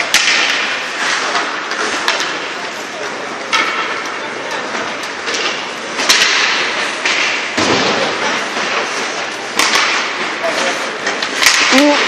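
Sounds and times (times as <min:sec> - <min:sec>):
hockey puck crack: 0:00.0 - 0:12.0
rink background noise: 0:00.0 - 0:12.0.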